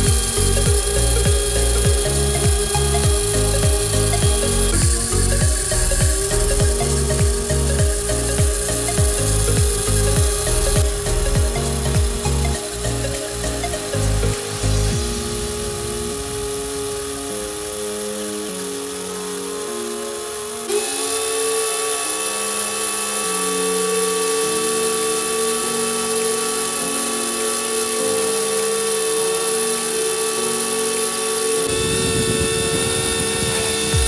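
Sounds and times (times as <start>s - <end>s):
small pump motor whining: 0.0s - 34.0s.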